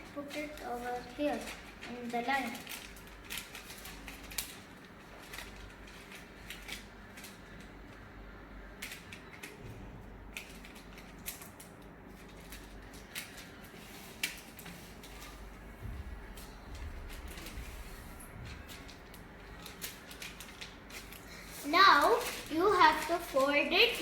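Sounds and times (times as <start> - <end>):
paper being folded: 0.0 - 8.0, 10.3 - 24.0.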